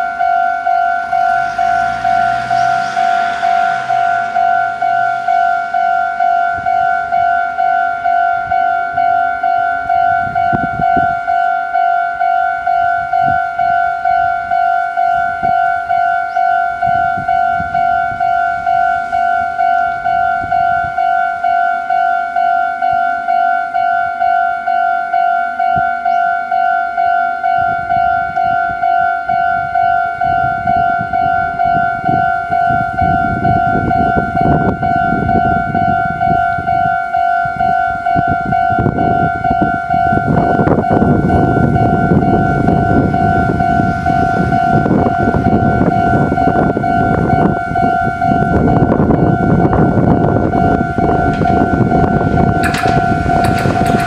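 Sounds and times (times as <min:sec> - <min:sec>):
level-crossing warning bell ringing: 0:00.0 - 0:54.0
low rumble of electric train: 0:00.0 - 0:54.0.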